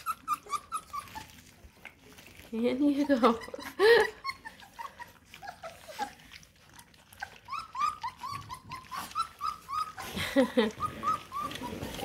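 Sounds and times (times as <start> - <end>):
puppies squeaking and whimpering: 0.0 - 12.0.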